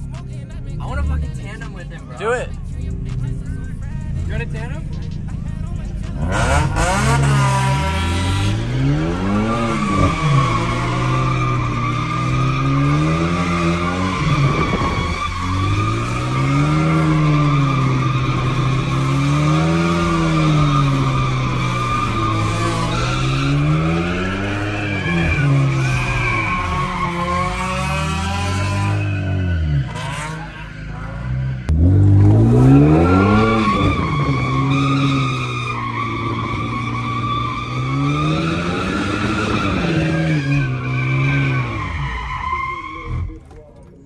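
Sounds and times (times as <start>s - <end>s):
turbocharged engine revving: 0.0s - 42.2s
tires squealing: 0.0s - 44.0s.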